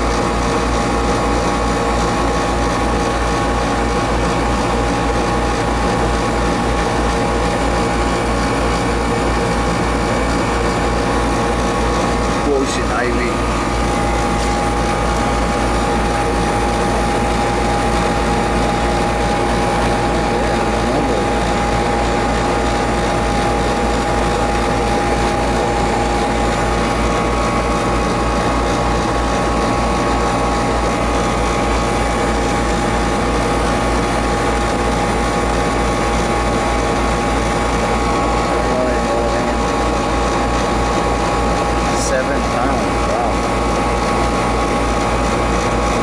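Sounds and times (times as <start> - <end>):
heating machine hum: 0.0 - 46.0
steady machine whine: 0.0 - 46.0.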